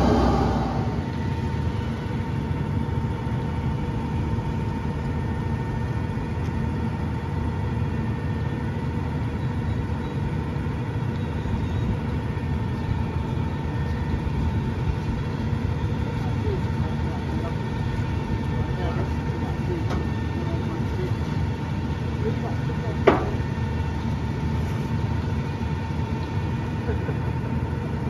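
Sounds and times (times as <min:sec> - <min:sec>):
diesel engine running: 0:00.0 - 0:28.0
thin steady whine: 0:00.0 - 0:28.0.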